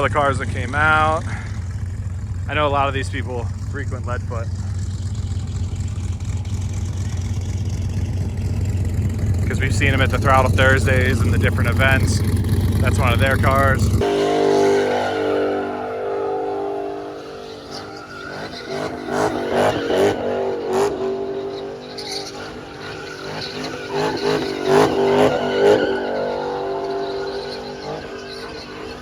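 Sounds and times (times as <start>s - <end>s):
car engine at high revs: 0.0s - 29.0s
tyres skidding and squealing: 0.0s - 29.0s.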